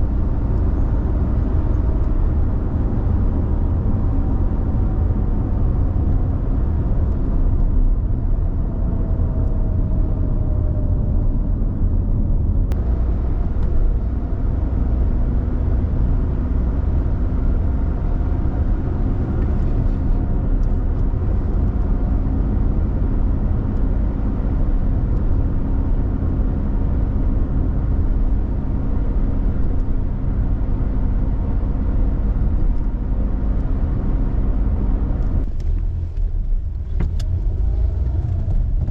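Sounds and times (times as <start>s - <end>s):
low engine drone: 0.0s - 38.9s
road and tyre rumble: 0.0s - 38.9s.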